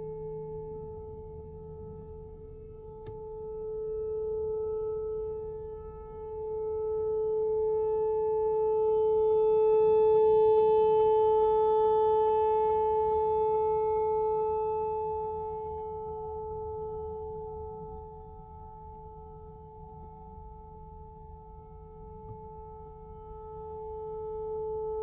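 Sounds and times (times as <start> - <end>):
outdoor warning siren steady tone: 0.0 - 25.0.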